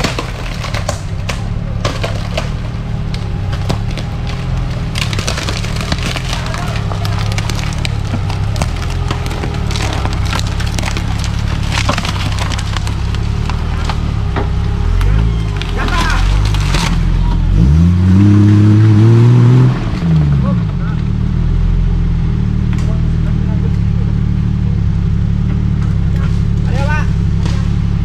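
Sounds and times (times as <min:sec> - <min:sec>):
bamboo cracking under tyres: 0:00.0 - 0:23.9, 0:24.8 - 0:28.0
engine rumbling: 0:00.0 - 0:28.0.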